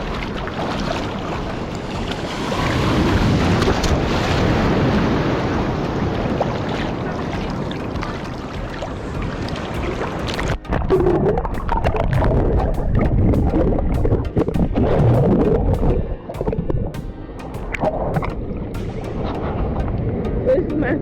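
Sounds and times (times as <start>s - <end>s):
ocean surf washing onto beach: 0.0s - 21.0s
wind on microphone: 0.0s - 21.0s.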